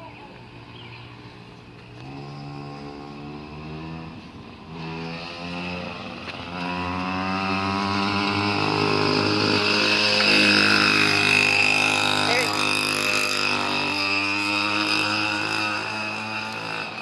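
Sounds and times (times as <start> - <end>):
mini motorcycle engine revving: 0.0 - 17.0.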